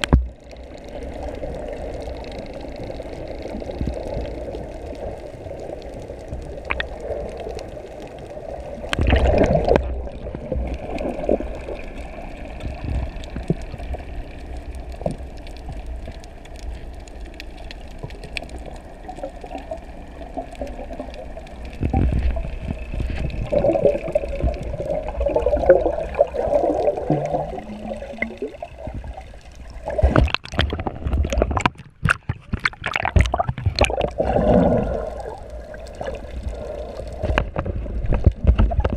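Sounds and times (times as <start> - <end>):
muffled underwater sloshing: 0.0 - 38.9
water bubbling: 0.0 - 38.9
water splashes: 0.0 - 38.9.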